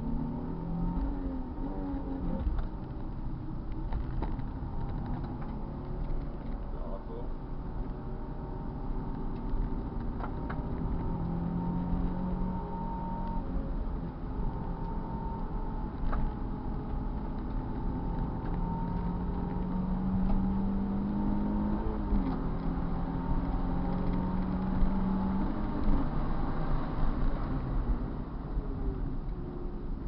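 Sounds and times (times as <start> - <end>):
car engine running: 0.0 - 30.0
road and wind noise: 0.0 - 30.0.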